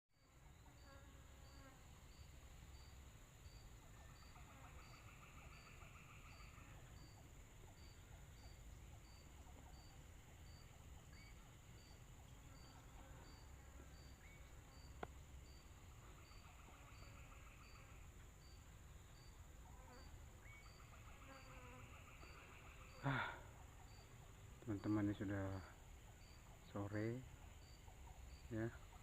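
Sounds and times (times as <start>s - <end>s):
insect chirps: 0.2s - 29.0s
insect chorus buzzing: 0.2s - 29.0s
rapid pulsed insect trill: 0.2s - 29.0s.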